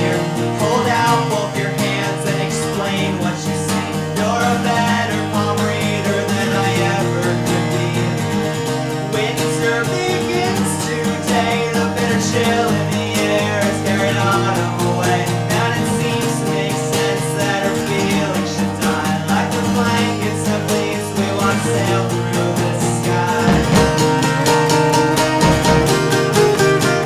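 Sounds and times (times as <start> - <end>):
band music with guitar: 0.0 - 27.0.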